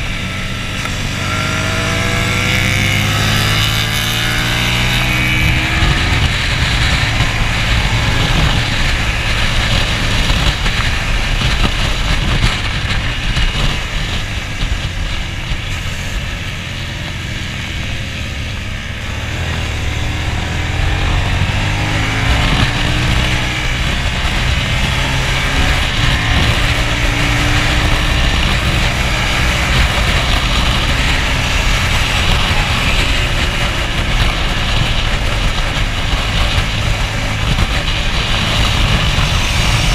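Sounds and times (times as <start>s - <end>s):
motorcycle engine running hard: 0.0s - 39.9s
wind rush over microphone: 0.0s - 39.9s.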